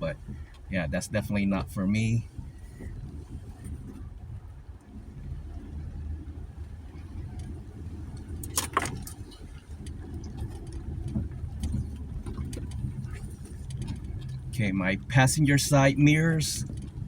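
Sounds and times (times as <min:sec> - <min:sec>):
interior rattles: 0:00.0 - 0:17.0
truck engine running low: 0:00.0 - 0:17.0.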